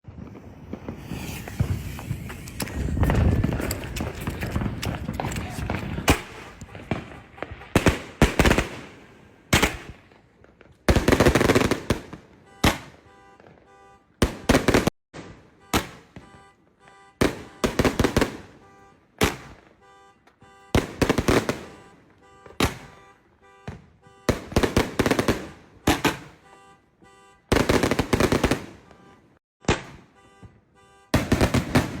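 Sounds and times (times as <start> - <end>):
fireworks banging: 0.0 - 32.0.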